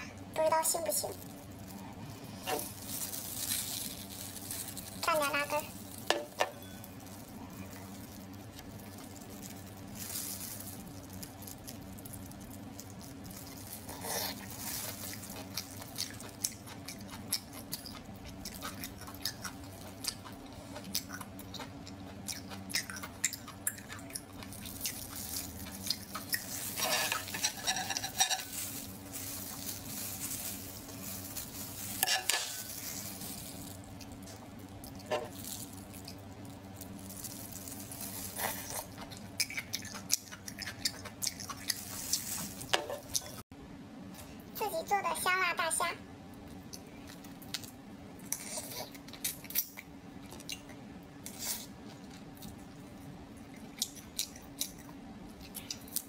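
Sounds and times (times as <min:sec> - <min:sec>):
steady low hum: 0:00.0 - 0:56.0
person chewing food: 0:06.9 - 0:43.4, 0:46.4 - 0:56.0.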